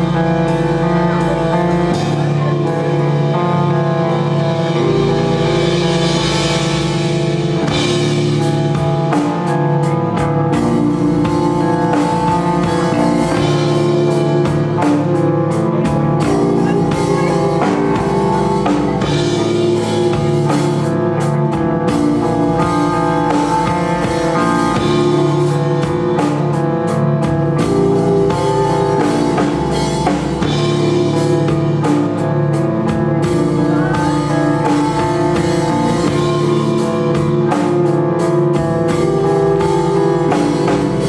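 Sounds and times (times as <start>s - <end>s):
drum kit: 0.0s - 41.0s
guitar chords: 0.0s - 41.0s.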